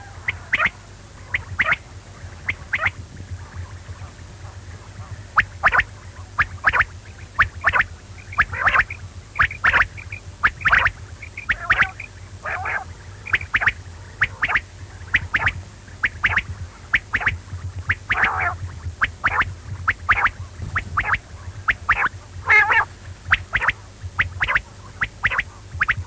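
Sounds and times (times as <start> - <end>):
quail calling: 0.0 - 26.0
steady low hum: 0.0 - 26.0.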